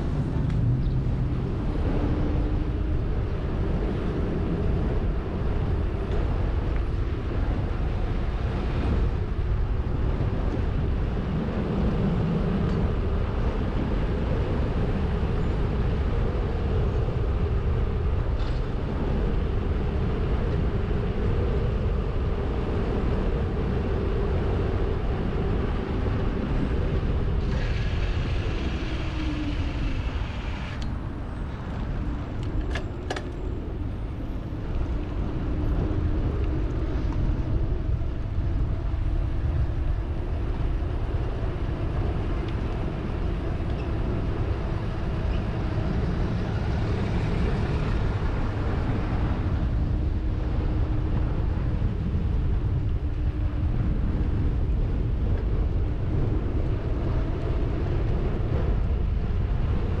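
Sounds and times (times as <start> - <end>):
road and traffic noise: 0.0 - 60.0
wind buffeting microphone: 0.0 - 60.0.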